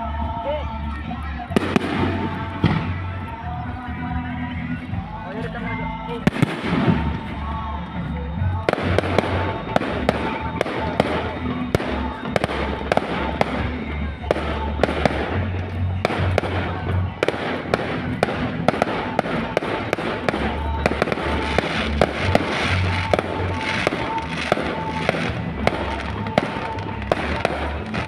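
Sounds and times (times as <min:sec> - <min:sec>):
music playing: 0:00.0 - 0:28.0
fireworks bangs and pops: 0:01.5 - 0:03.2, 0:06.2 - 0:07.7, 0:08.6 - 0:28.0.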